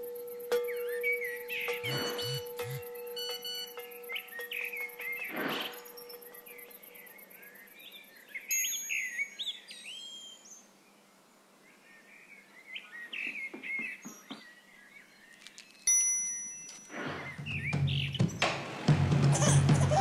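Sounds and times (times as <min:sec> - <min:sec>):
birds chirping and twittering: 0:00.0 - 0:16.0, 0:16.7 - 0:18.6.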